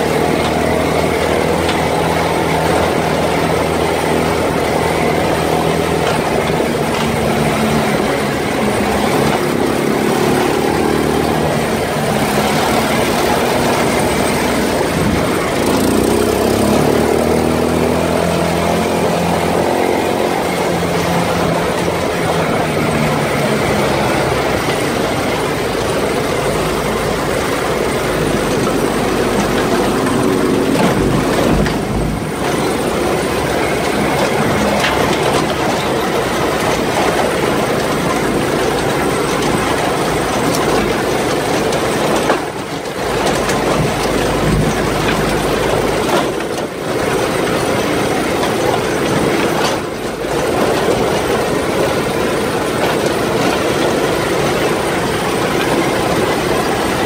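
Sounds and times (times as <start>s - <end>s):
buggy engine running: 0.0s - 57.0s
chassis rattling over bumps: 0.0s - 57.0s.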